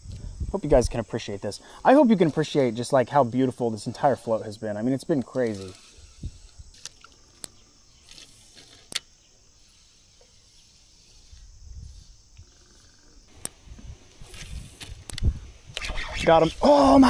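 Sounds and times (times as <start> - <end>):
insect chirring: 0.0 - 17.0.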